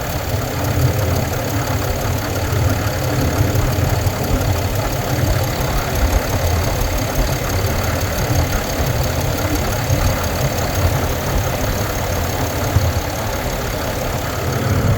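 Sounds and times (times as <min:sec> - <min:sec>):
diesel engine idling: 0:00.0 - 0:14.9
fast even engine ticking: 0:00.0 - 0:14.9.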